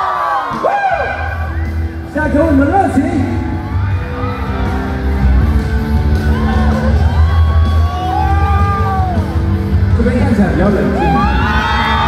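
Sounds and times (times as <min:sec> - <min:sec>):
fans screaming and whooping: 0:00.0 - 0:12.0
live pop music with bass beat: 0:00.0 - 0:12.0.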